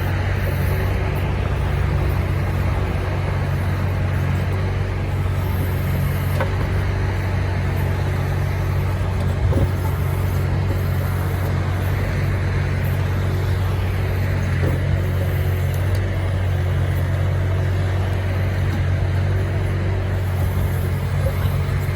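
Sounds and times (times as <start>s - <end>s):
excavator engine running: 0.0s - 21.9s.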